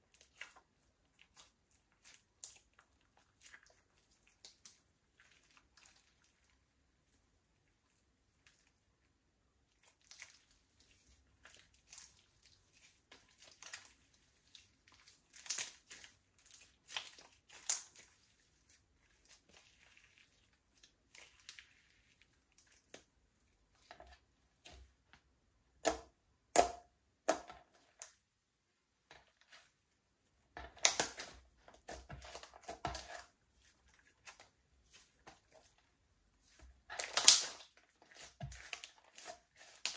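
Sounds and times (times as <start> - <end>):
slime squishing and crackling: 0.0 - 8.8, 9.6 - 24.2, 30.6 - 39.9.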